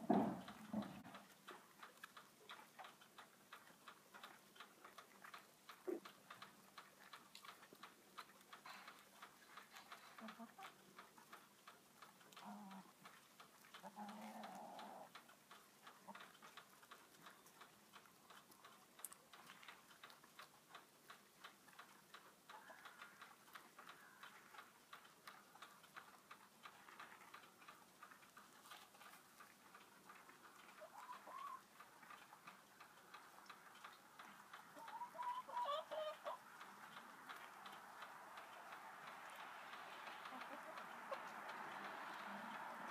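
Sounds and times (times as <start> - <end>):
hens clucking: 0.0 - 17.7, 21.7 - 42.9
light rain pattering: 0.0 - 42.9.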